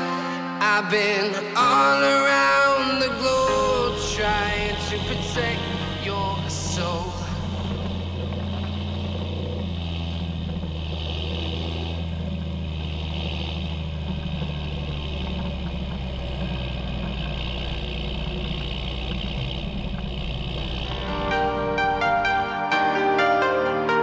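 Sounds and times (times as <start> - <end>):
diesel tractor engine running: 2.6 - 22.9.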